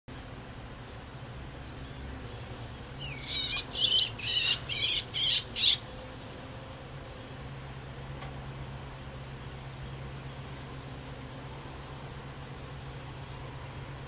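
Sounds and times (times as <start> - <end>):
songbird singing: 0.1 - 14.0.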